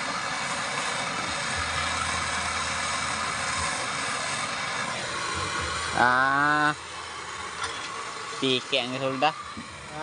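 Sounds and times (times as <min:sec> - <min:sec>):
steady hissing rush: 0:00.0 - 0:10.0.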